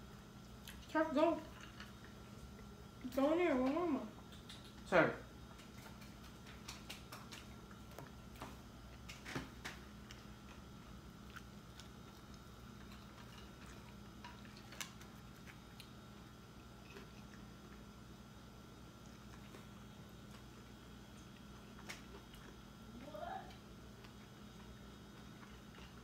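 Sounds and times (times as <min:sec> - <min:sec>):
faint steady hum: 0:00.0 - 0:26.0
biting and chewing bread: 0:03.6 - 0:26.0.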